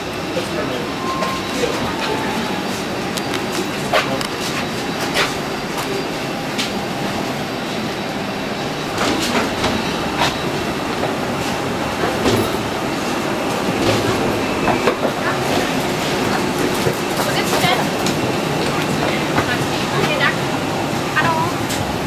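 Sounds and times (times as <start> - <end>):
footsteps and luggage clacking: 1.1 - 22.0.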